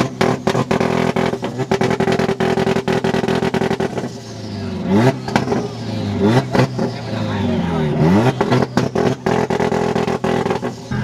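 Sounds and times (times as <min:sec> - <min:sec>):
exhaust pops and bangs: 0:00.0 - 0:04.3, 0:04.9 - 0:07.1, 0:08.0 - 0:11.0
car engine on rev limiter: 0:00.0 - 0:11.0.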